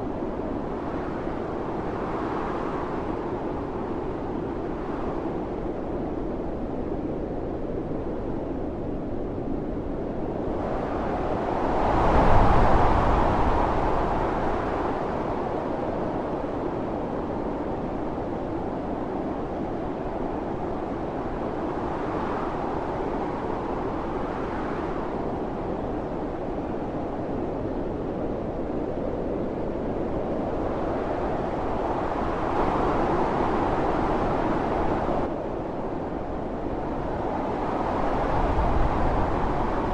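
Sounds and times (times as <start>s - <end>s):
howling snowstorm wind: 0.0s - 39.9s.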